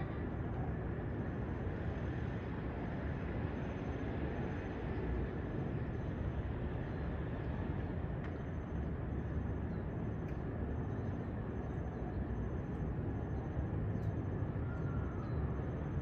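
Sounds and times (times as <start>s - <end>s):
low urban rumble: 0.0s - 16.0s.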